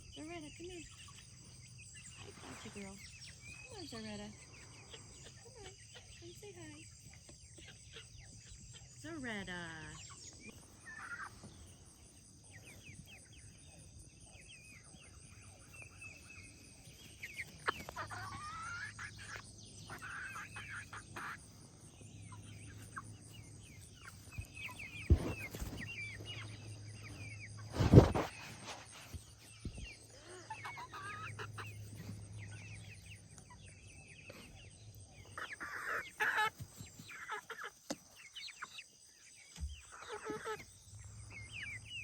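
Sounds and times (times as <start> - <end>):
hens clucking and chirping: 0.0 - 42.0.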